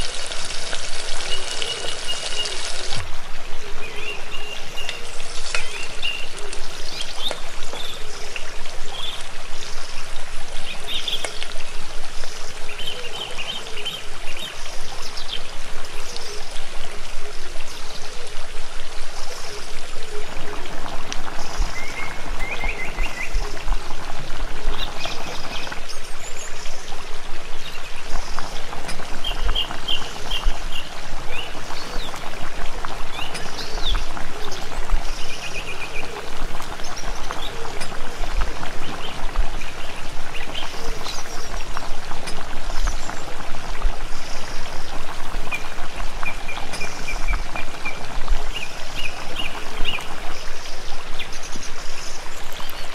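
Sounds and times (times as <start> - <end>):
small birds chirping: 0.0 - 3.0, 3.8 - 52.9
stream water running: 0.0 - 52.9.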